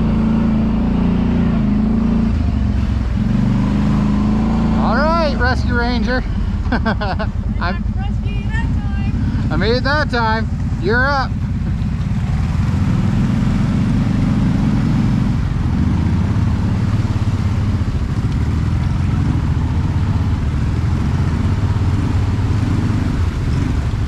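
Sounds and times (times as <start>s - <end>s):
vehicle engine running at low revs: 0.0s - 24.0s.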